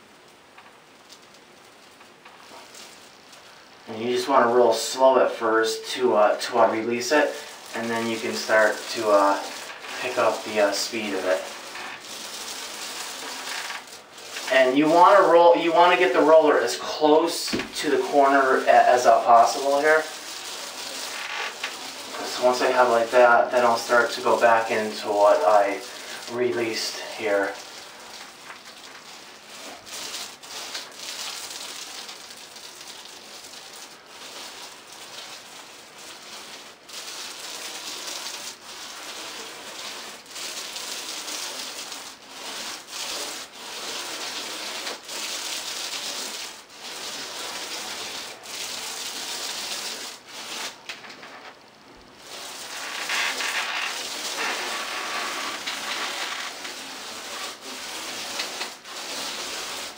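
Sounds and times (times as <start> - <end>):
paint roller rolling on ceiling: 0.6 - 51.6, 52.2 - 59.9.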